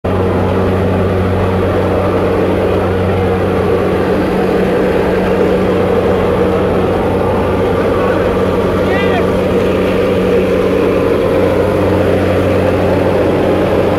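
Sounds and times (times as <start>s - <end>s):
aircraft engine and propeller drone: 0.0s - 13.9s.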